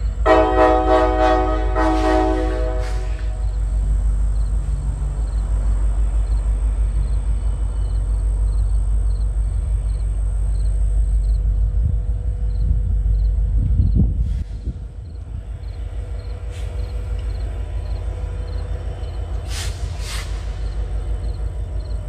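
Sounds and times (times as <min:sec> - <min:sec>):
steady low rumble: 0:02.5 - 0:22.0
cricket chirping: 0:03.0 - 0:14.2, 0:15.0 - 0:22.0.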